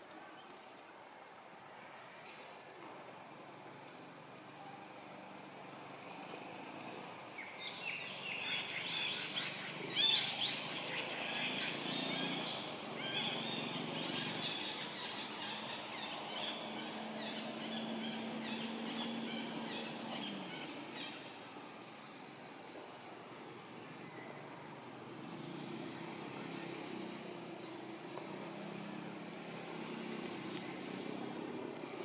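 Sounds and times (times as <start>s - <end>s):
insect drone: 0.0s - 32.0s.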